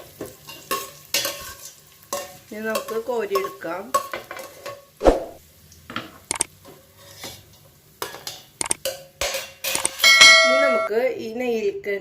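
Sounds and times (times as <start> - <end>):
spoon scraping and tapping a pan: 0.0 - 4.9, 5.9 - 10.9.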